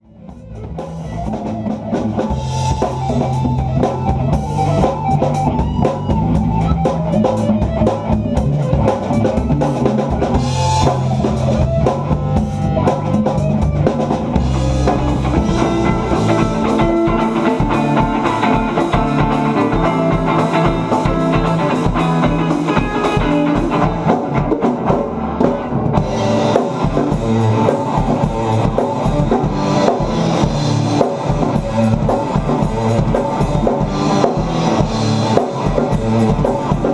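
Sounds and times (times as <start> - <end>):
rock band playing: 0.0 - 36.9.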